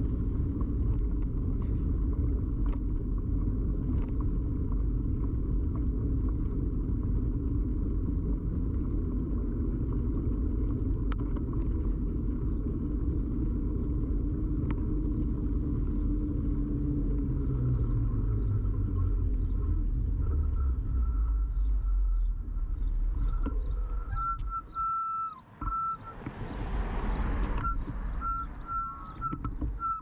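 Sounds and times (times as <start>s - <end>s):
bicycle tyre and frame rumble: 0.0s - 30.0s.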